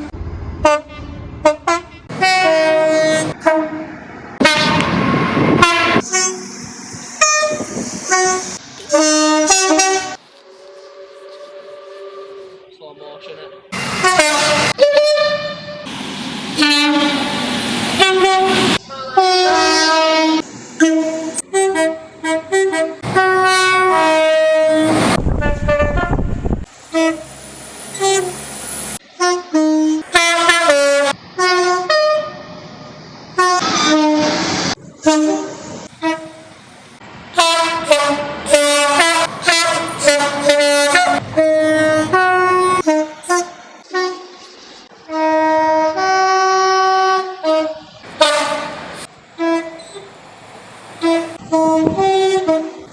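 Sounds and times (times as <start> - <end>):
train horn blasts: 0.0 - 12.8, 14.0 - 15.9, 16.6 - 17.4, 18.0 - 28.4, 29.1 - 34.4, 35.0 - 36.6, 37.3 - 48.8, 49.4 - 50.1, 51.0 - 52.9.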